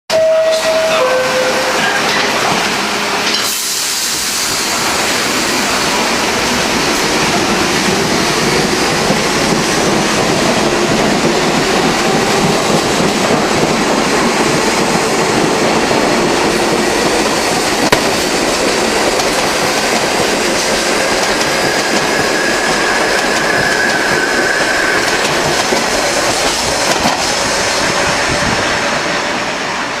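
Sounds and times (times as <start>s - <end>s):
wheels rumbling on rail: 0.1s - 30.0s.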